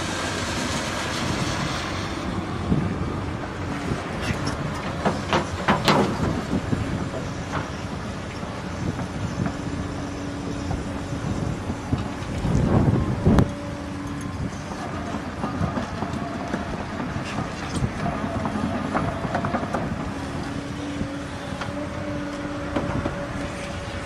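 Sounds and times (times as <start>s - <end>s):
heavy machinery rumbling: 0.0s - 24.0s.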